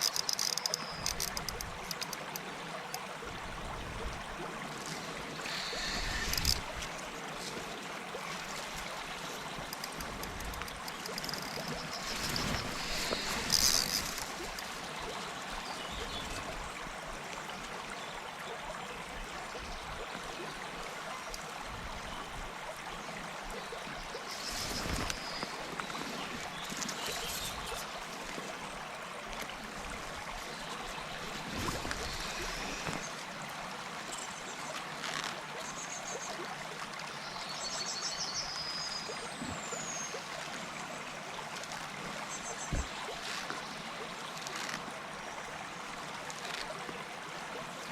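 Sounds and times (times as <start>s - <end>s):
river water flowing: 0.0s - 47.9s.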